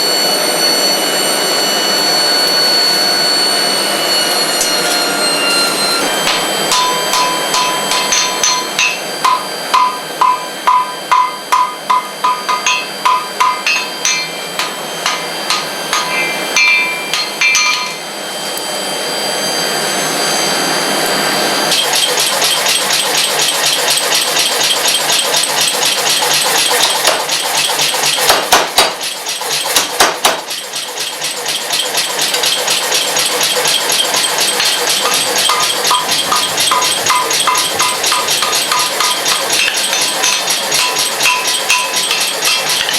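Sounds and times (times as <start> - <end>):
hammer ringing on anvil: 4.5 - 18.1, 21.7 - 42.9.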